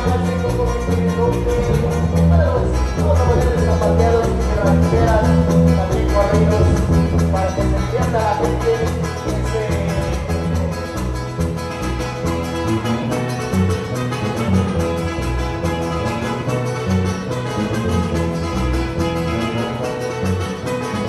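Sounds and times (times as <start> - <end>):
latin dance music: 0.0 - 21.0.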